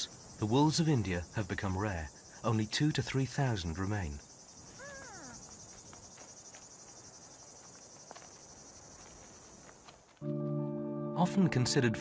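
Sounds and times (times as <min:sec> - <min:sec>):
crickets chirring: 0:00.0 - 0:10.2.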